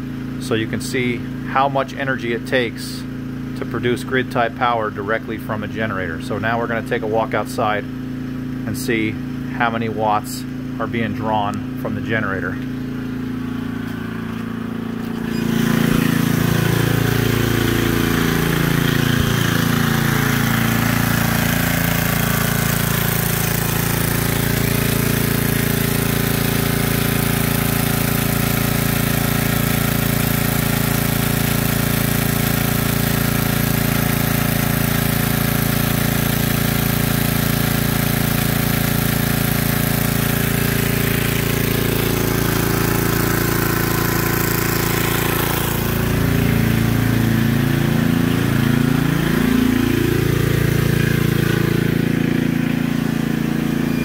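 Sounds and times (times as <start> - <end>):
portable generator engine running: 0.0 - 54.0.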